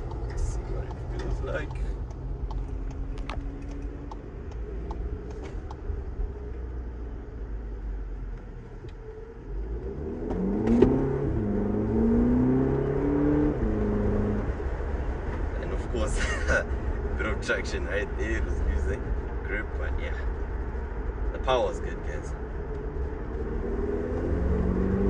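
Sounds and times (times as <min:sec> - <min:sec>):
car engine accelerating: 0:00.0 - 0:17.4, 0:18.0 - 0:25.0.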